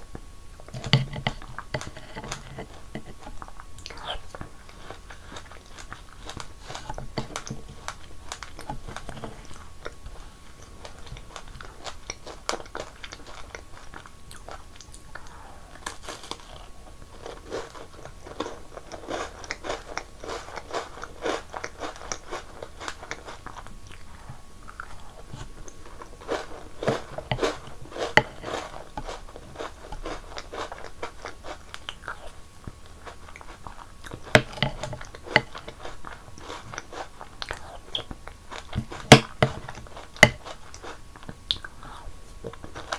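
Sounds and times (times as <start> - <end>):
chewing and crunching: 0.6 - 42.9.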